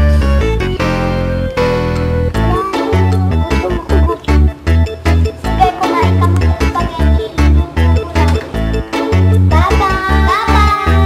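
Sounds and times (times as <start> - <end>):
music with steady beat and bass: 0.0 - 11.0
sliding melody: 0.0 - 11.0.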